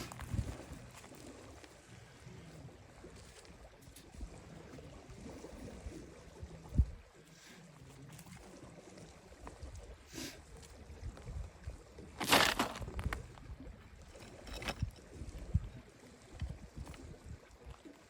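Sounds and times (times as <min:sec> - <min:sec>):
wind rumbling on microphone: 0:00.0 - 0:07.1, 0:09.2 - 0:18.0.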